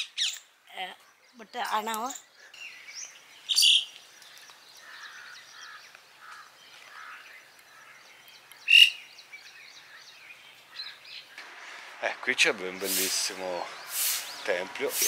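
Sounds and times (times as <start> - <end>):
birds chirping and calling: 0.0 - 15.0
loud short bird calls: 1.6 - 12.0, 12.7 - 15.0.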